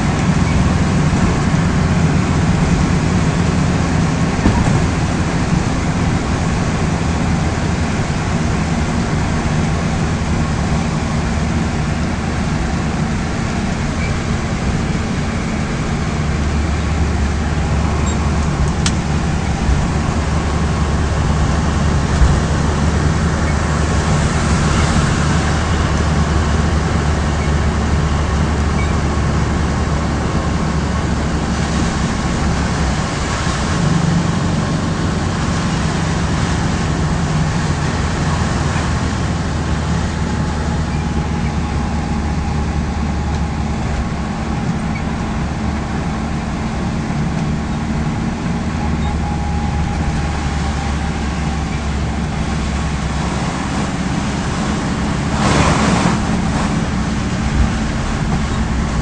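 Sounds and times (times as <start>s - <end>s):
car engine droning: 0.0s - 59.0s
tyres hissing on wet road: 0.0s - 59.0s.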